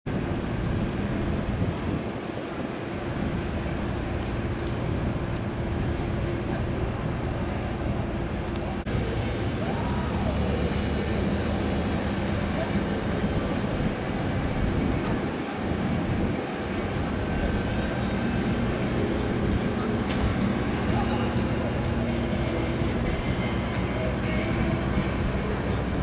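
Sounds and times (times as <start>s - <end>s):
mechanical drone with low hum: 0.1s - 26.0s.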